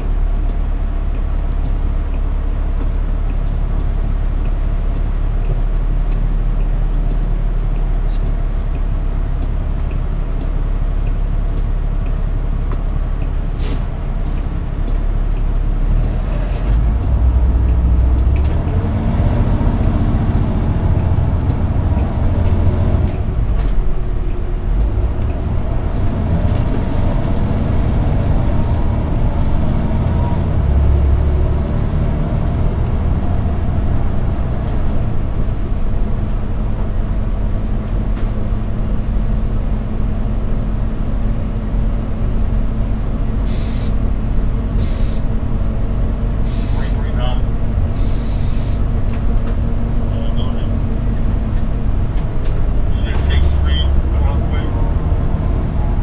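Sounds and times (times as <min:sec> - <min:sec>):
diesel bus engine accelerating: 0:00.0 - 0:56.0.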